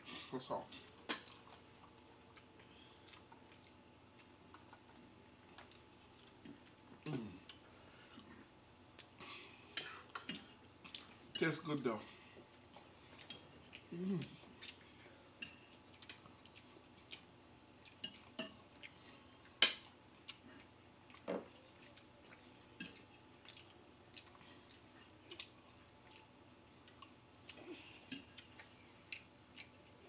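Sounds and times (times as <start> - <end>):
person chewing: 0.8 - 11.3, 12.2 - 30.0.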